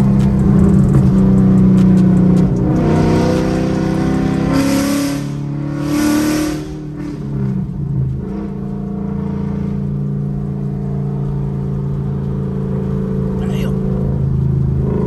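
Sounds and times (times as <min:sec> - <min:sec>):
loud car exhaust while driving: 0:00.0 - 0:15.0.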